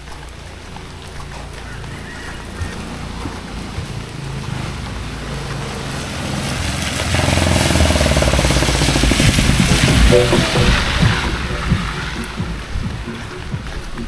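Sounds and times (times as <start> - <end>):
vehicle engine running: 0.0 - 13.7.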